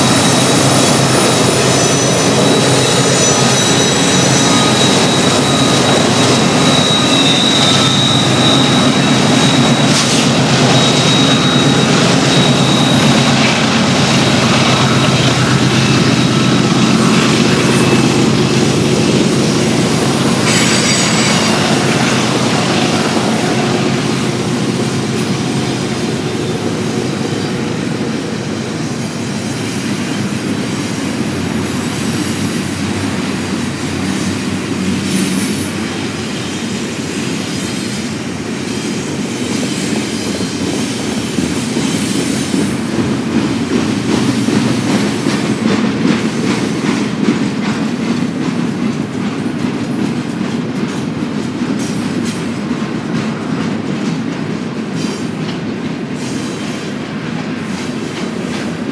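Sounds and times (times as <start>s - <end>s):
clickety-clack of train wheels: 0.0s - 58.9s
train wheels rumbling on rail: 0.0s - 58.9s.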